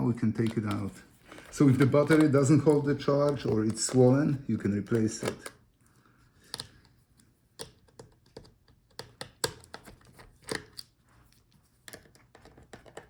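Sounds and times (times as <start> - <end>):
clicks of laptop parts and tools: 0.3 - 4.3, 4.9 - 5.6, 6.4 - 11.0, 11.8 - 13.0.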